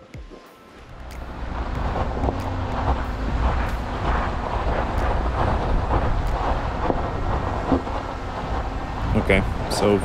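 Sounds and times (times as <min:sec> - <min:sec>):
vehicle driving on gravel: 0:00.8 - 0:10.0.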